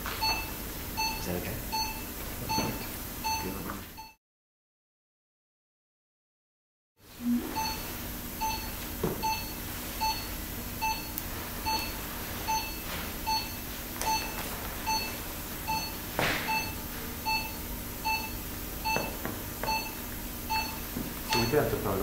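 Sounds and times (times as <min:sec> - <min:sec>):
pulse oximeter beeping: 0:00.2 - 0:04.2, 0:07.2 - 0:21.8.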